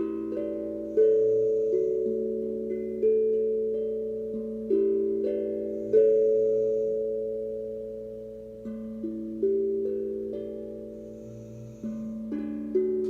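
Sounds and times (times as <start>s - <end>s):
steel tongue drum notes: 0.0s - 13.0s.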